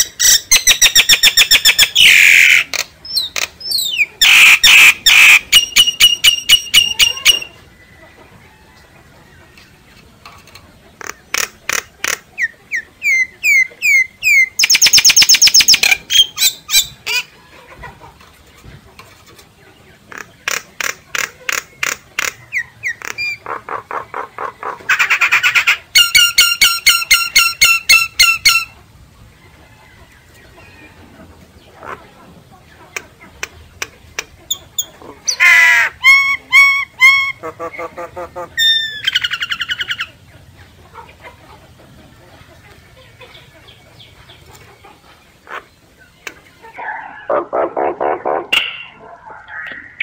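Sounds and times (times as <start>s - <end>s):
myna bird calls: 0.0s - 8.1s, 10.3s - 18.2s, 19.7s - 28.8s, 32.7s - 41.0s, 42.7s - 50.0s.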